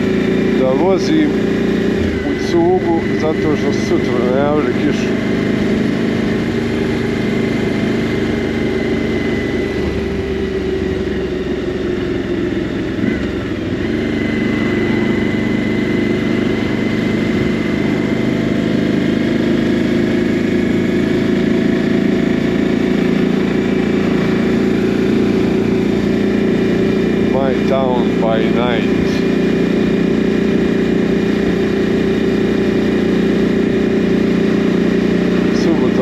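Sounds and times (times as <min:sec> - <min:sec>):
motorcycle engine running: 0:00.0 - 0:36.0
road and wind noise: 0:00.0 - 0:36.0.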